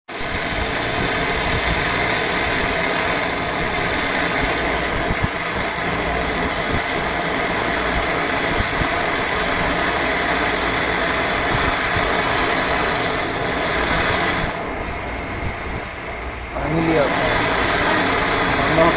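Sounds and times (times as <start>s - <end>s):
gas hissing: 0.1s - 18.9s
refrigerator compressor humming: 0.1s - 18.9s.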